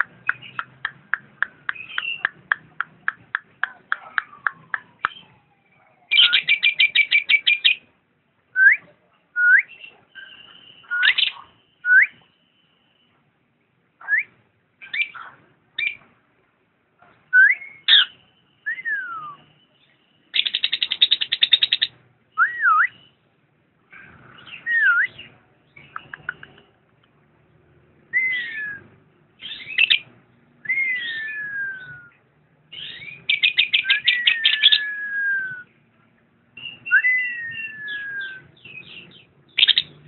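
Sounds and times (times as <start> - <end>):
lovebird singing: 0.0 - 7.9, 9.4 - 12.3, 14.0 - 16.0, 17.3 - 23.1, 23.9 - 27.1, 28.0 - 35.8, 36.5 - 40.0.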